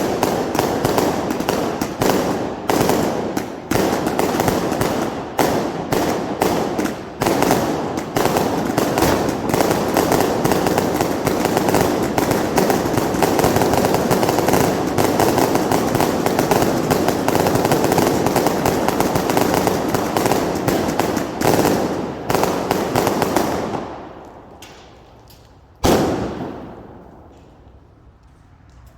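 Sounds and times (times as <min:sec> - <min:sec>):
fireworks bangs and crackles: 0:00.0 - 0:25.0, 0:25.8 - 0:27.8.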